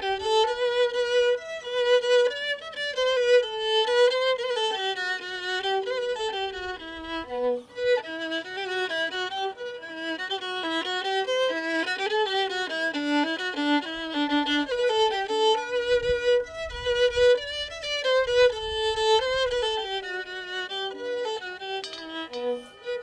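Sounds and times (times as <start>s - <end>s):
violin melody: 0.0s - 23.0s.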